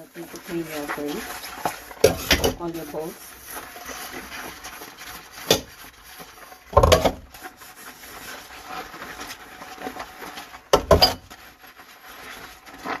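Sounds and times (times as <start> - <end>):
scrubbing a bowl: 0.0 - 13.0.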